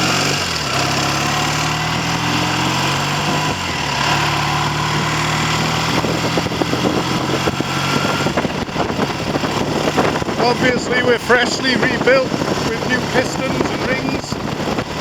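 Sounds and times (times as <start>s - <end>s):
motorcycle engine idling: 0.0s - 15.0s
wind noise on microphone: 0.0s - 15.0s.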